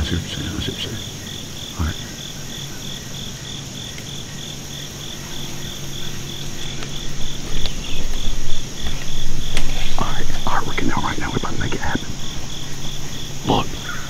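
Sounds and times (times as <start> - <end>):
high-pitched insect chorus: 0.0 - 14.0
insect chirping: 0.0 - 14.0
low rumbling noise: 0.0 - 14.0.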